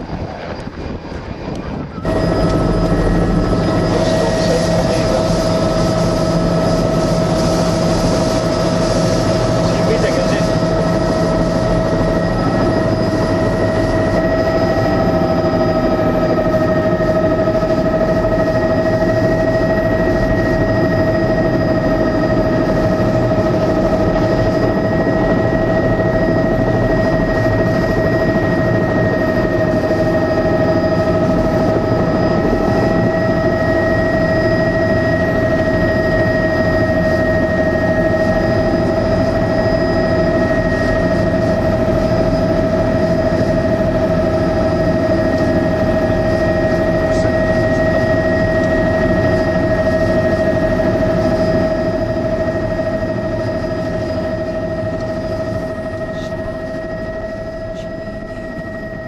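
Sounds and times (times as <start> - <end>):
helicopter rotor and engine: 0.0 - 59.0
steady whine: 0.0 - 59.0.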